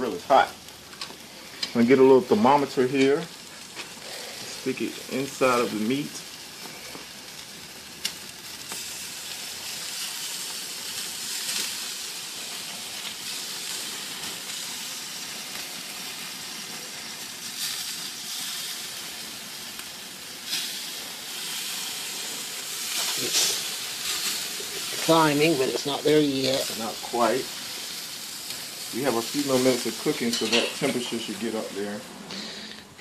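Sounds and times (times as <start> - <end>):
meat sizzling on a grill: 0.0 - 33.0.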